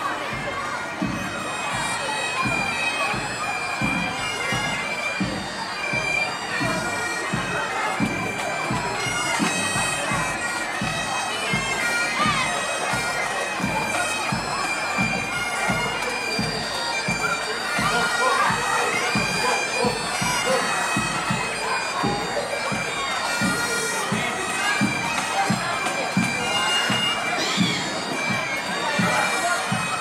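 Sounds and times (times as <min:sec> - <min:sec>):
bagpipes playing drones and melody: 0:00.0 - 0:30.0.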